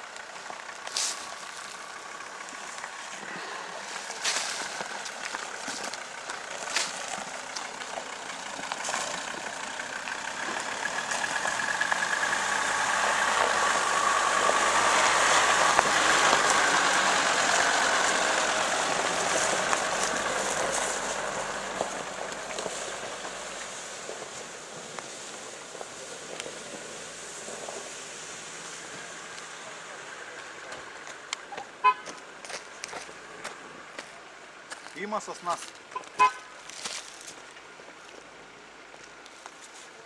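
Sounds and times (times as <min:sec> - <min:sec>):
suv engine running: 0:00.0 - 0:40.0.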